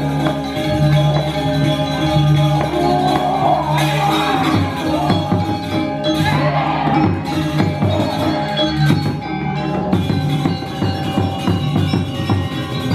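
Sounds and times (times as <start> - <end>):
drums: 0.0 - 12.9
struck metal percussion: 0.0 - 12.9
sustained tones: 0.0 - 12.9.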